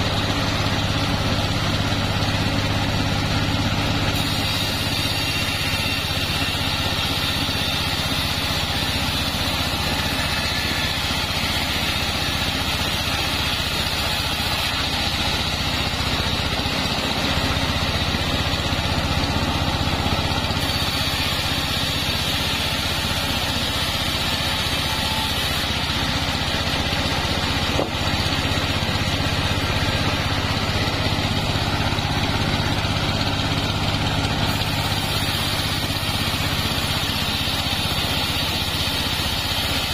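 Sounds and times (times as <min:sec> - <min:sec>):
band sawmill engine drone: 0:00.0 - 0:39.9
saw blade cutting log: 0:00.0 - 0:39.9.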